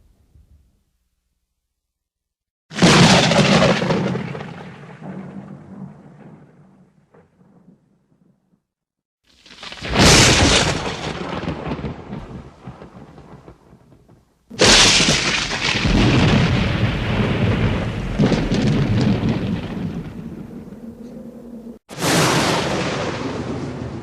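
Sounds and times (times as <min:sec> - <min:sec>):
thunder cracking and rumbling: 0:02.7 - 0:08.6, 0:09.5 - 0:21.1, 0:21.7 - 0:24.0.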